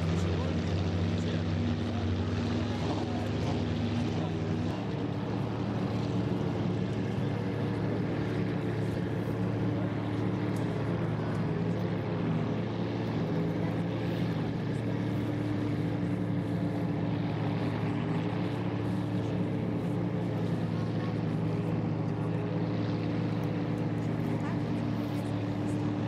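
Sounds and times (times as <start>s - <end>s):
powerboat engines droning: 0.0s - 26.0s.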